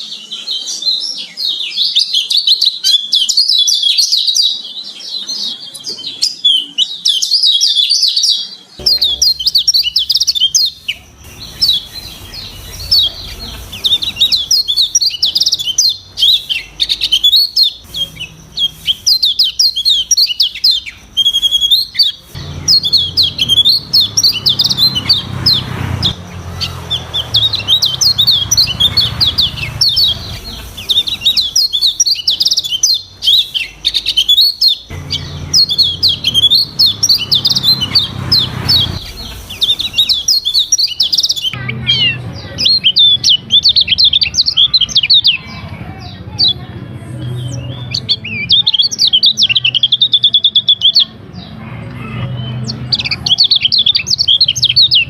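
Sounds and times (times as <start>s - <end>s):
bird twittering song: 0.0s - 46.6s, 47.2s - 51.1s, 52.0s - 55.0s.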